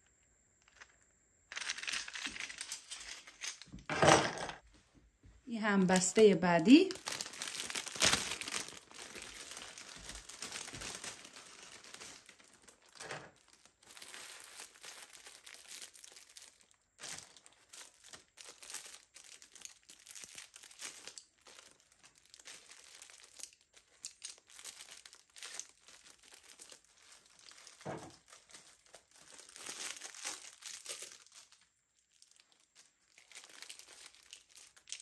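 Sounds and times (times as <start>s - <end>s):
plastic packaging crinkling: 1.5s - 4.0s, 5.7s - 35.0s.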